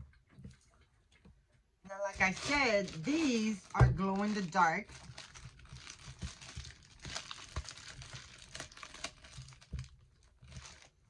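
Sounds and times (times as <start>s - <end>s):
plastic bag crinkling: 1.9s - 11.0s.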